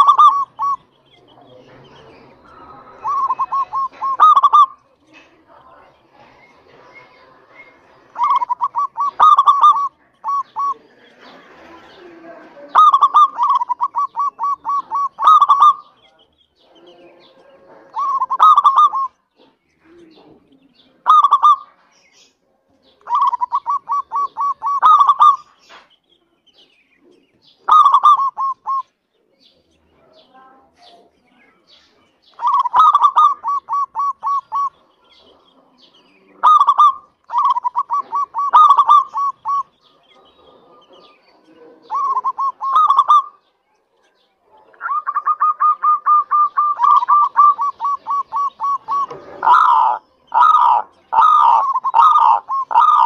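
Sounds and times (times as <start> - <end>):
dove cooing: 0.0 - 21.9, 23.0 - 25.6, 27.0 - 28.9, 32.4 - 43.5, 44.5 - 53.0.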